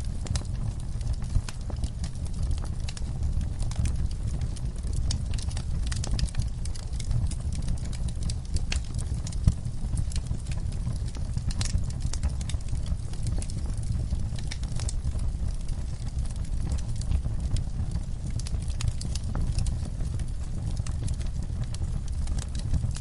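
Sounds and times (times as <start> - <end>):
burning wood popping: 0.0 - 23.0
campfire crackling: 0.0 - 23.0
steady low rumble: 0.0 - 23.0.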